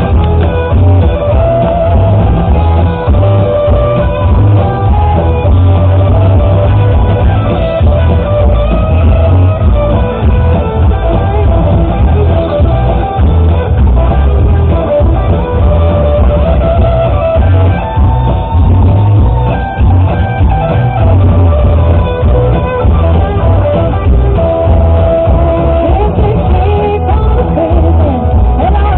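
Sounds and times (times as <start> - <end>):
heavy pulsing bass line: 0.0 - 28.9
loud rock music: 0.0 - 28.9.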